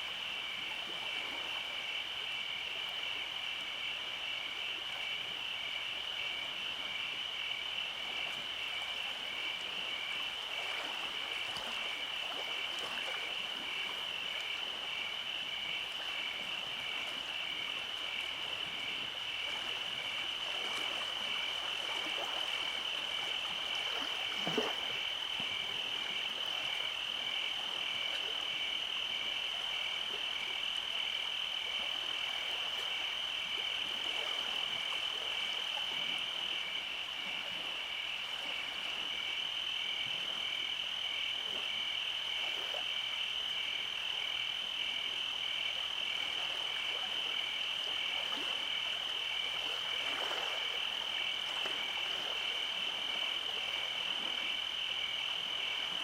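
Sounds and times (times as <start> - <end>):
frogs croaking: 0.0 - 56.0
insects trilling: 0.1 - 56.0.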